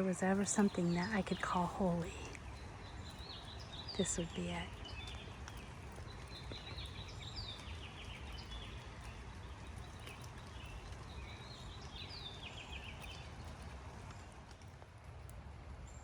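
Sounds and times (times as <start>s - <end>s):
small bird singing: 0.0s - 13.7s
low outdoor rumble: 0.0s - 16.0s.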